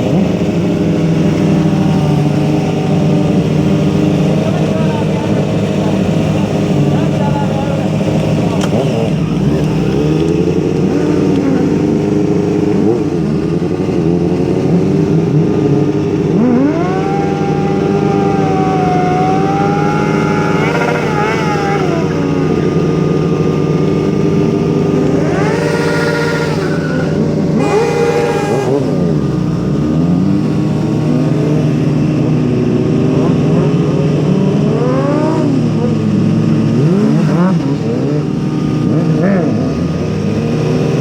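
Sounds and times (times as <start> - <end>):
engine revving: 0.0 - 41.0
engines droning: 0.0 - 41.0.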